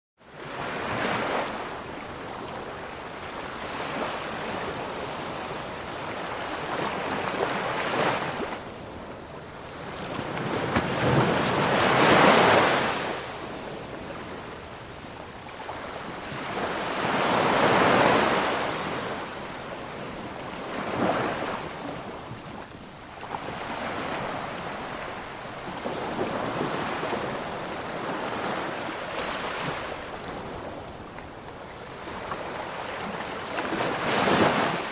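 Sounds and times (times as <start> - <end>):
ocean waves breaking on shore: 0.2 - 34.9.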